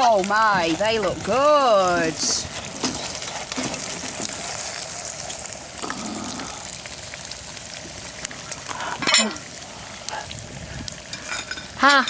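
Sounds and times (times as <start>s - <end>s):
steaks sizzling on a grill: 0.0s - 12.0s
wood fire crackling: 0.0s - 12.0s.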